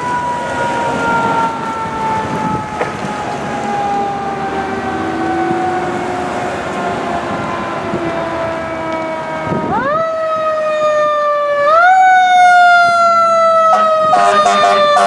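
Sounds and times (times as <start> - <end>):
fire truck siren wailing: 0.0 - 15.0.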